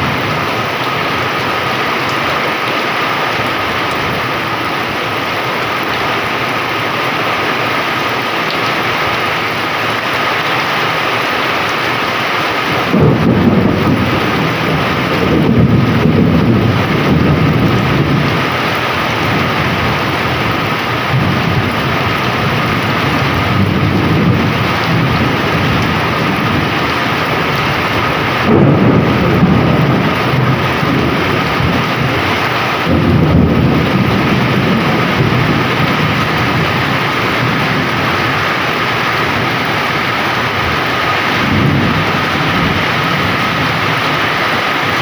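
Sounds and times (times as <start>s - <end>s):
heavy rain pouring: 0.0s - 45.0s
low rolling thunder: 0.0s - 45.0s.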